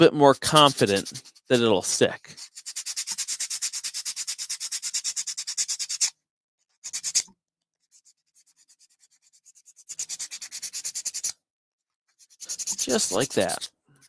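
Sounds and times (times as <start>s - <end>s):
sandpaper rubbing on plastic: 0.2s - 11.4s, 12.1s - 14.0s.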